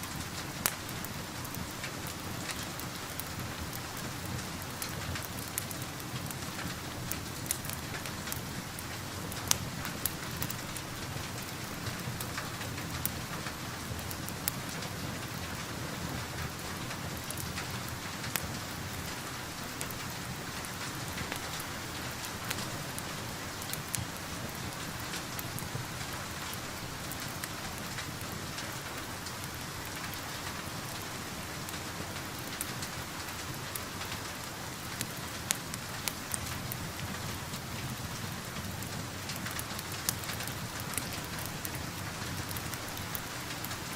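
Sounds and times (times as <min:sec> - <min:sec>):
fire crackling: 0:00.0 - 0:43.9
rain falling: 0:00.0 - 0:43.9.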